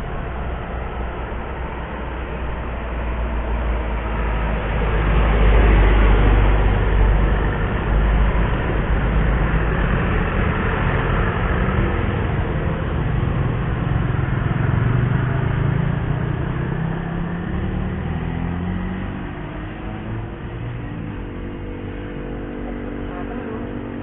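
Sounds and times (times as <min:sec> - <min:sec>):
heavy vehicle engine hum: 0:00.0 - 0:24.0
road traffic passing: 0:00.0 - 0:24.0.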